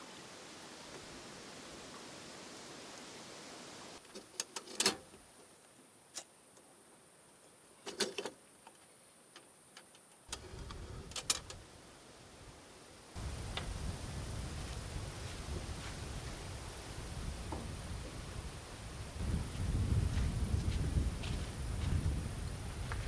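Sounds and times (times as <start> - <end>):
faint hiss: 0.0 - 23.0.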